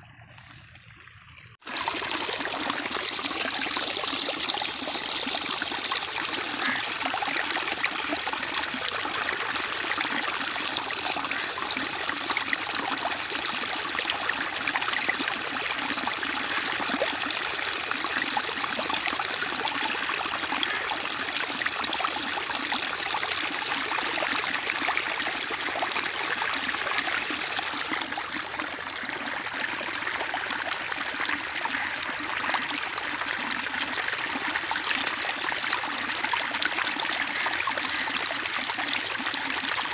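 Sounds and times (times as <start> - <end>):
water pouring into a pool: 0.0 - 39.9.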